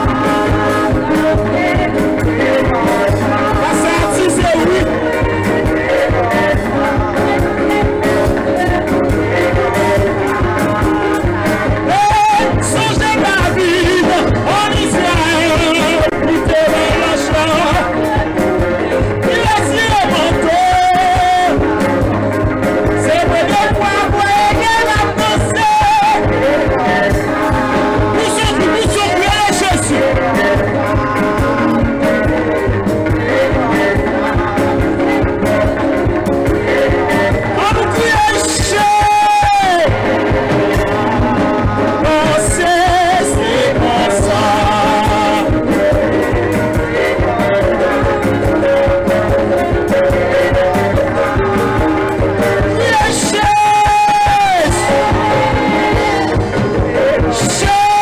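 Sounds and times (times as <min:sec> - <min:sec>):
band with drum beat: 0:00.0 - 0:58.0
man singing into a microphone: 0:00.0 - 0:58.0.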